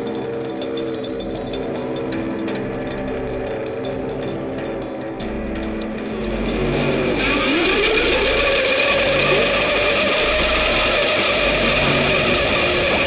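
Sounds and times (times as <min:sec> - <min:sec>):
guitar with effects: 0:00.0 - 0:13.0
pulsing low bass: 0:00.0 - 0:13.0.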